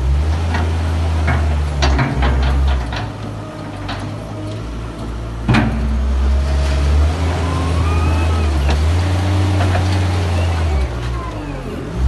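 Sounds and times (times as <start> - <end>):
wheel loader engine revving: 0.0 - 12.0.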